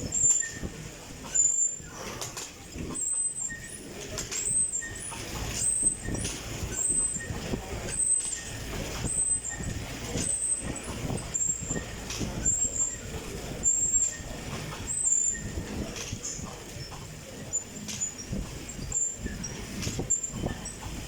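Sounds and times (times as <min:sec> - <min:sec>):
fan air rushing: 0:00.0 - 0:21.0.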